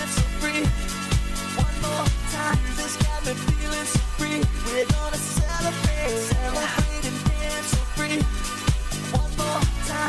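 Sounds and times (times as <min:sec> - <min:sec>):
house music: 0:00.0 - 0:10.0.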